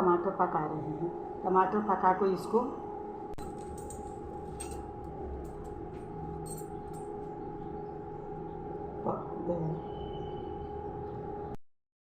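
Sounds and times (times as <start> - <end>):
induction cooktop humming: 0.0 - 11.5.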